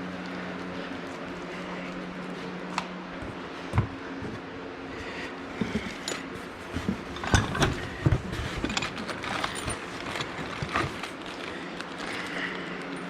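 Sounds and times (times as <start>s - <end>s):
small fan humming: 0.0s - 13.0s.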